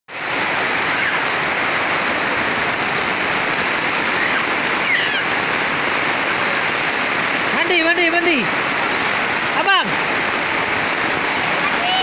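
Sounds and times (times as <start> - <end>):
heavy rain on paving: 0.1 - 12.0.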